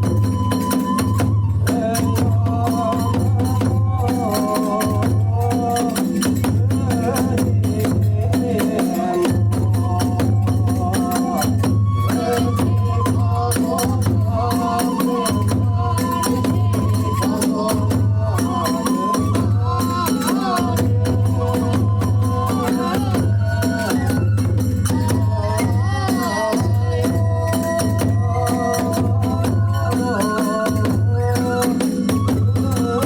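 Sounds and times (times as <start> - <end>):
bamboo flute melody: 0.0 - 33.0.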